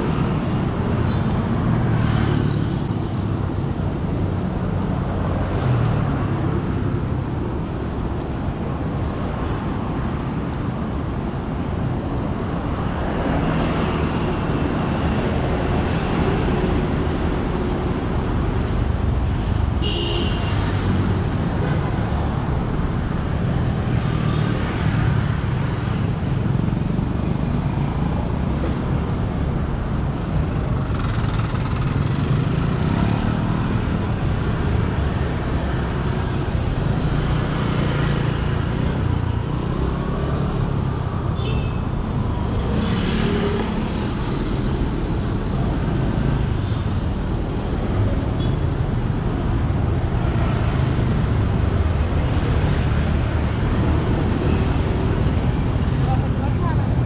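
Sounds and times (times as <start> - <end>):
passing motor vehicles rumble: 0.0 - 57.0.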